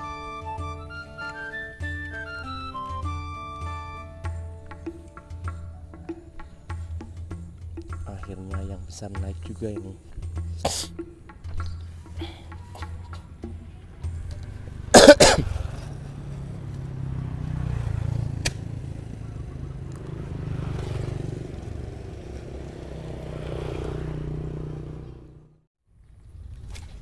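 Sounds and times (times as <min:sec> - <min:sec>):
road traffic rumble: 0:00.0 - 0:25.7.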